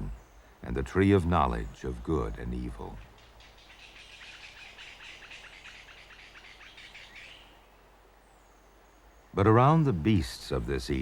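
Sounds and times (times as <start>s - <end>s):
bird chirping: 0.0s - 9.8s.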